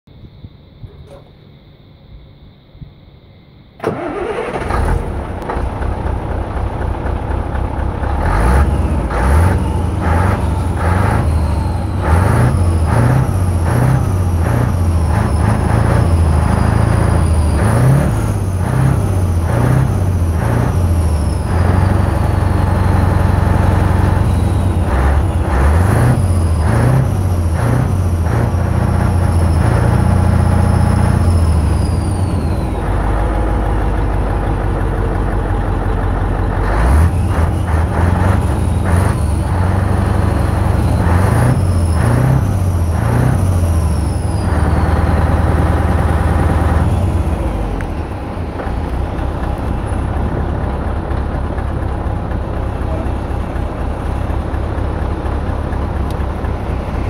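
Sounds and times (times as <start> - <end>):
diesel engine starting and revving: 3.8 - 57.0.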